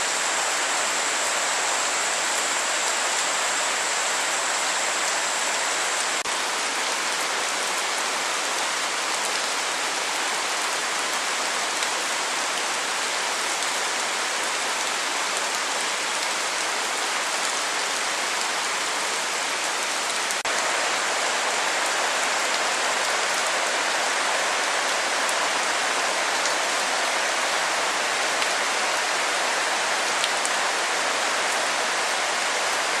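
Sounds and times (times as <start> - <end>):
light rain falling: 0.0 - 33.0.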